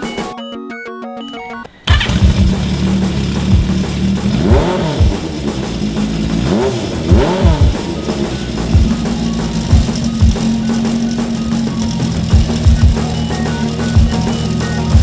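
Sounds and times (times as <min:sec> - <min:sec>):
electronic music: 0:00.0 - 0:15.0
motorcycle engine revving: 0:01.9 - 0:15.0.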